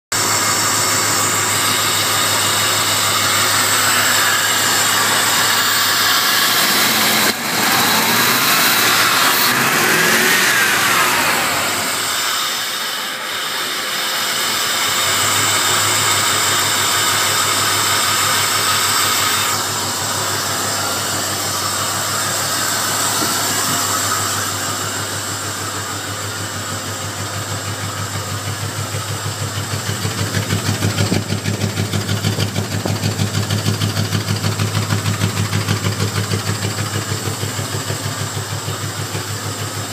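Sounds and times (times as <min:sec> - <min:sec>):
car engine revving and idling: 0:00.1 - 0:39.9.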